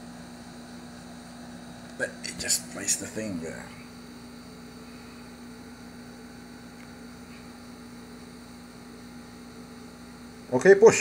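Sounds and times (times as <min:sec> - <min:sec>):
electrical hum with light hiss: 0:00.0 - 0:11.0.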